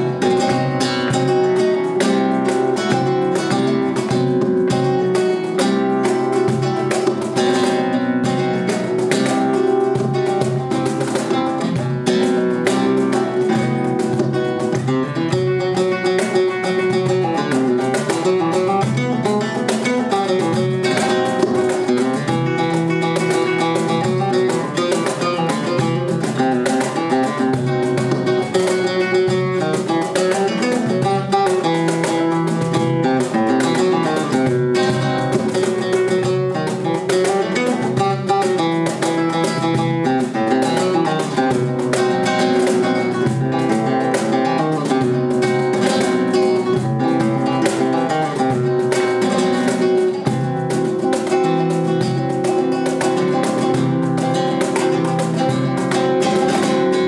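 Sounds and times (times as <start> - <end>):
flamenco guitar: 0.0 - 57.0
hand slaps on cajon: 0.0 - 57.0.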